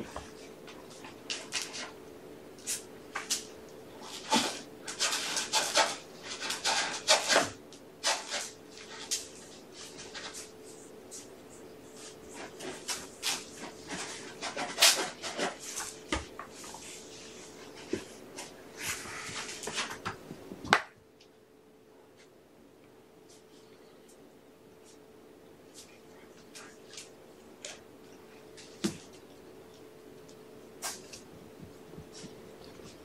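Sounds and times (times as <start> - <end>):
cats playing rustles and scuffs: 0.0 - 20.6, 23.2 - 33.0
faint steady hum: 0.0 - 33.0.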